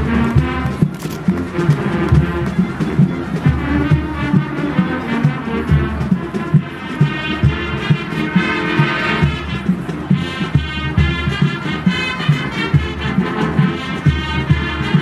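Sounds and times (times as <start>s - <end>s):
marching band brass tune: 0.0s - 15.0s
steady drum beat: 0.0s - 15.0s.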